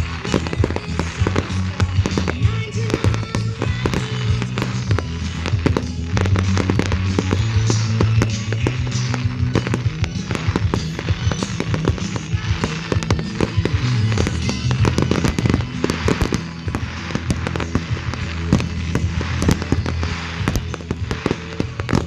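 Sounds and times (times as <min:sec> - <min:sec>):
fireworks bangs and crackles: 0:00.0 - 0:22.0
music with steady bass: 0:00.0 - 0:22.0.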